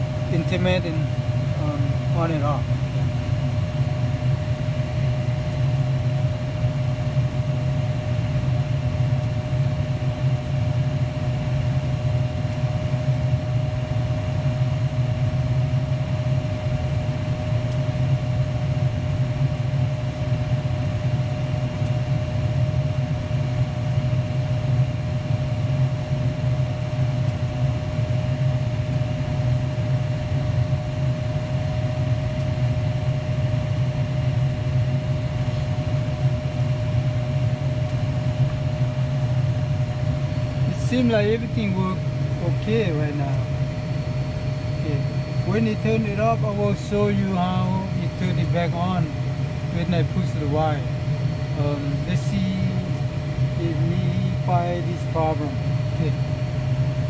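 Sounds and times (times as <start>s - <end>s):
furnace blower motor humming: 0.0s - 57.0s
thin steady whine: 0.0s - 57.0s.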